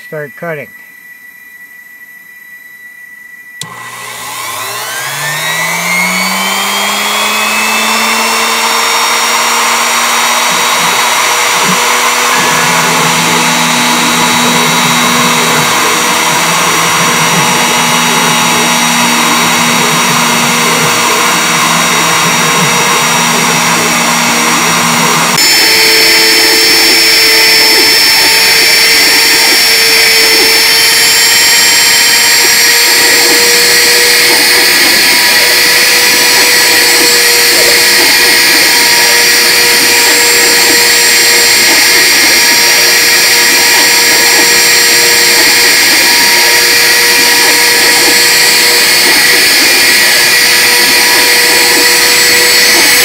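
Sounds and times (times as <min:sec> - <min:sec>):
router bit cutting wood: 0:00.0 - 0:00.7, 0:02.7 - 0:53.0
router spindle motor whining: 0:00.0 - 0:53.0.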